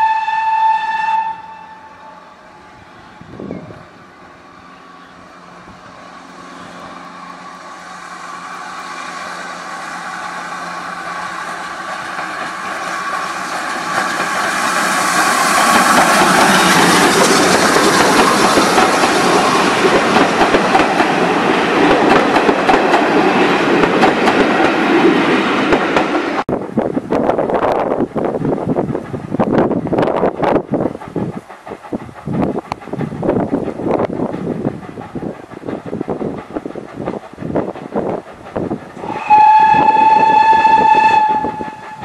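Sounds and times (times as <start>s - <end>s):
steam train passing: 0.0s - 42.0s
wheels clicking over rail joints: 6.2s - 42.0s.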